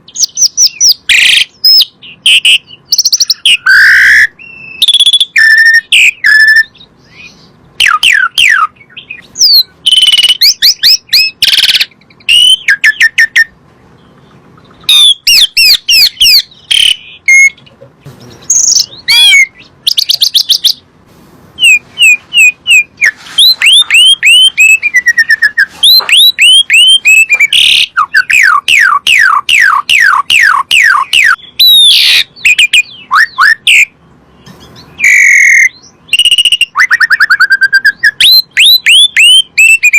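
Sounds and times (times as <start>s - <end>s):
starling singing whistled notes: 0.0s - 17.6s, 18.2s - 20.8s, 21.6s - 39.9s.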